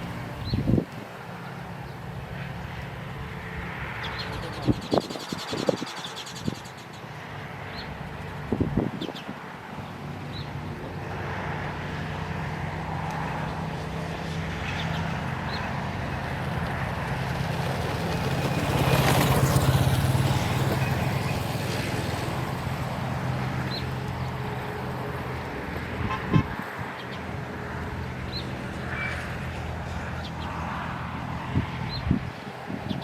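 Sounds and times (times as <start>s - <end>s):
vehicle passing by: 0.0s - 33.0s.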